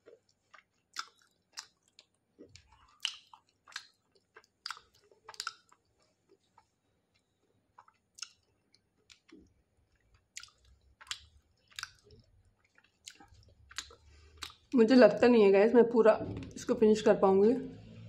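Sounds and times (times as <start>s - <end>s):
person chewing crunchy clay: 0.0s - 14.8s.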